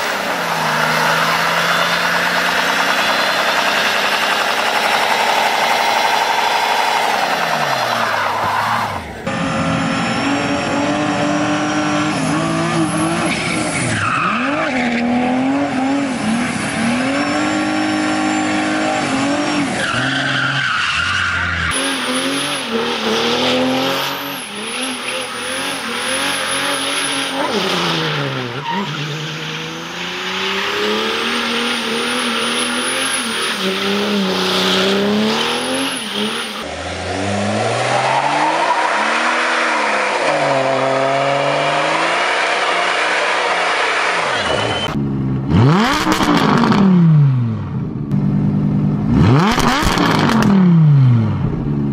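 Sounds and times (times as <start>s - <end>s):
tyres spinning and squealing: 0.0s - 9.3s, 10.3s - 45.0s
car engines revving: 0.0s - 51.9s.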